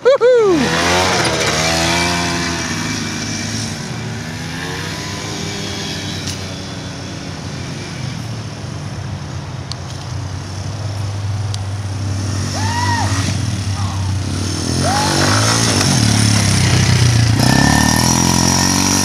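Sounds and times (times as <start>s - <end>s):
quad bike engine running: 0.5s - 8.5s, 11.0s - 19.0s.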